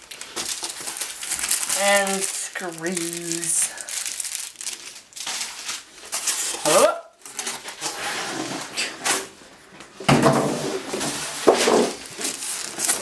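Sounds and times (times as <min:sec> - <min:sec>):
packaging rustling and scraping: 0:00.0 - 0:13.0.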